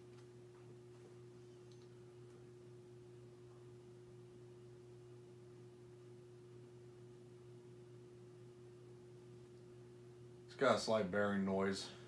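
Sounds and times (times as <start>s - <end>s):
ceiling fan hum: 0.0s - 12.0s.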